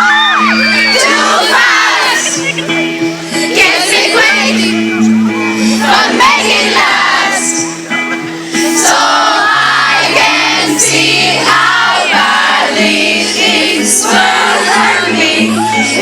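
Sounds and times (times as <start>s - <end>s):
crowd voices: 0.0s - 16.0s
live pop music with singing: 0.0s - 16.0s.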